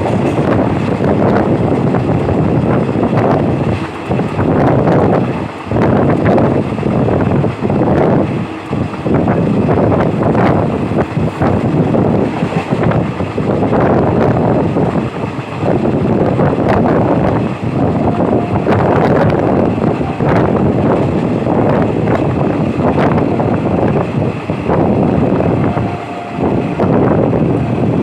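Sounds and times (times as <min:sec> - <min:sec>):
moving train running noise: 0:00.0 - 0:28.0
wind buffeting microphone: 0:00.0 - 0:28.0.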